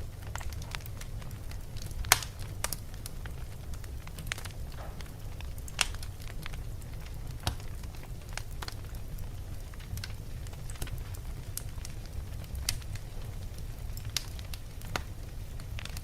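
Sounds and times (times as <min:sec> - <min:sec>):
fire crackles and pops: 0:00.0 - 0:16.0
wood fire rumbling: 0:00.0 - 0:16.0.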